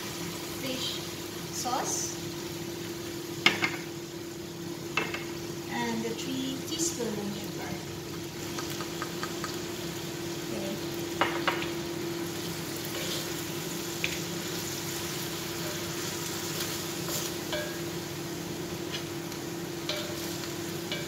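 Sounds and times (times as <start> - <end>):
chicken sizzling in a wok: 0.0 - 21.0.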